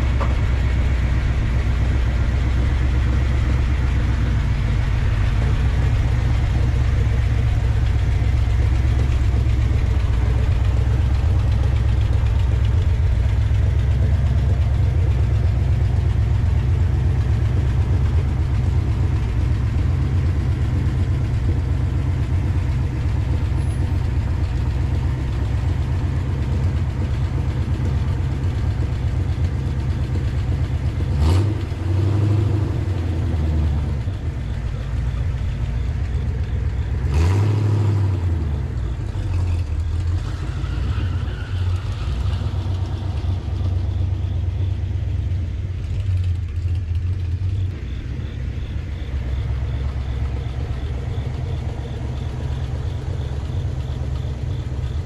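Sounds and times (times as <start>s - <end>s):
pickup engine rumbling: 0.0s - 55.0s.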